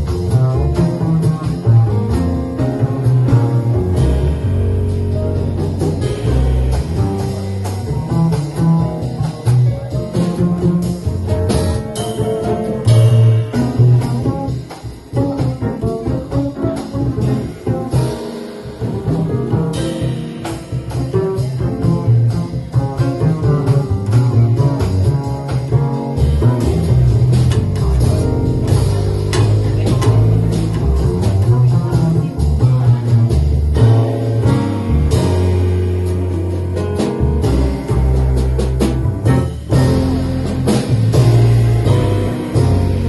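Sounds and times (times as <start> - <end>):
jazz piano: 0.0 - 43.0
plucked double bass: 0.0 - 43.0.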